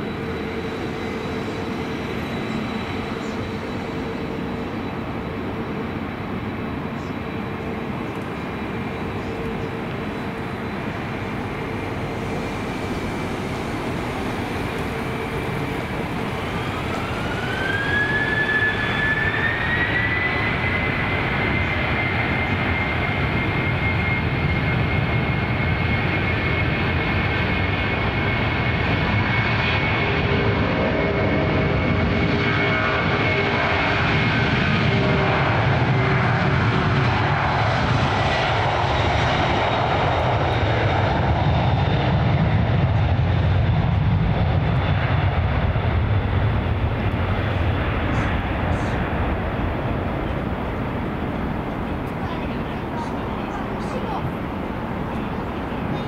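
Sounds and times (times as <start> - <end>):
jet engine whine spooling up: 0.0 - 56.0
jet engines rumbling: 0.0 - 56.0.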